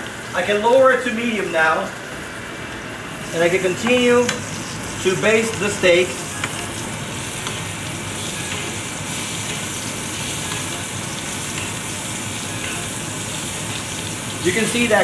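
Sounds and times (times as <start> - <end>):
steak sizzling in butter: 2.3 - 15.0.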